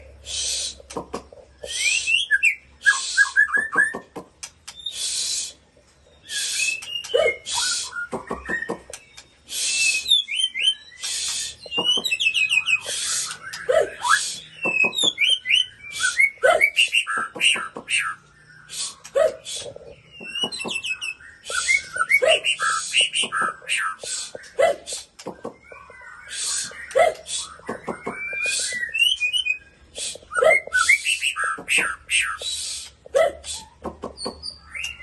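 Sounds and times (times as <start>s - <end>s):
bird singing whistled trills: 1.6s - 4.0s, 4.7s - 35.0s
harsh rasping bird notes: 1.6s - 5.6s, 6.2s - 35.0s.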